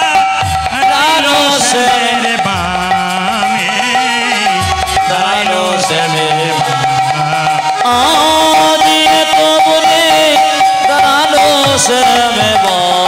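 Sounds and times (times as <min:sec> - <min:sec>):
hand drum strokes: 0:00.0 - 0:13.0
wavering melody: 0:00.0 - 0:13.0.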